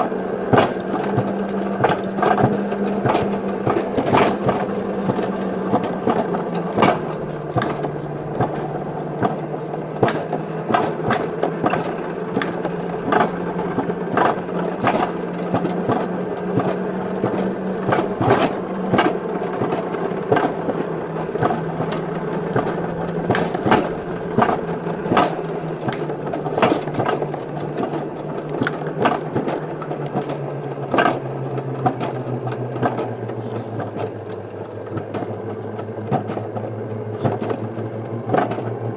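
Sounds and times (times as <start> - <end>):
sled wheel hum on rails: 0.0 - 38.9
wheels clicking over rail joints: 0.0 - 38.9.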